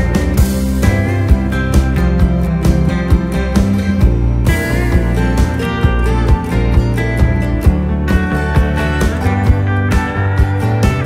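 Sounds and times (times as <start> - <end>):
guitar music with steady beat: 0.0 - 11.0.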